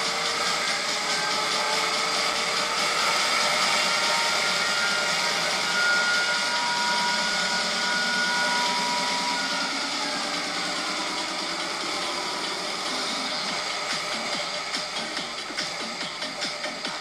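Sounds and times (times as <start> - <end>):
motorcycle engine running: 0.0 - 17.0
thin steady whine: 0.0 - 17.0.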